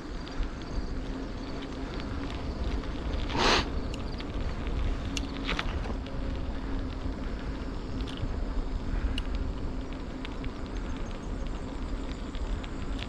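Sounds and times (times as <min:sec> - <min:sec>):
faint hum: 0:00.0 - 0:13.0
light ticks: 0:00.0 - 0:13.0
tyres rolling on pavement: 0:00.0 - 0:13.0
wind on microphone: 0:00.0 - 0:13.0.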